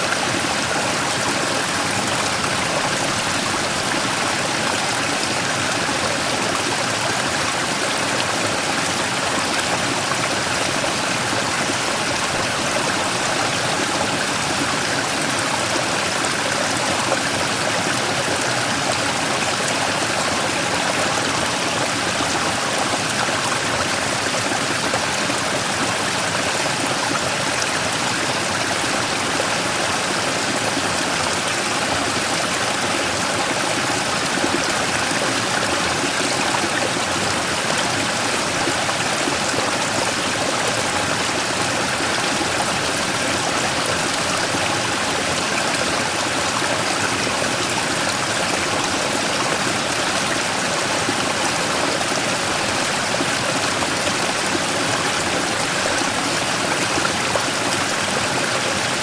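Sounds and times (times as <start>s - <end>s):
stream rushing over rock: 0.0s - 59.0s.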